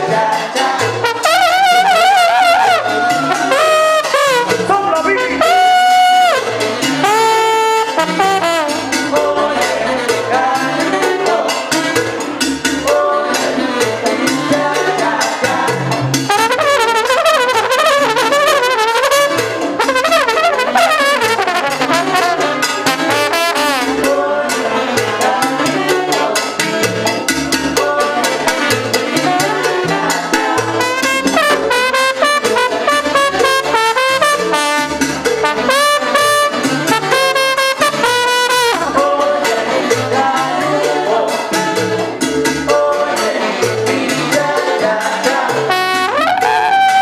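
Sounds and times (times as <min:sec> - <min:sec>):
trombone solo: 0:00.0 - 0:41.8, 0:42.7 - 0:47.0
salsa bass and percussion: 0:00.0 - 0:47.0.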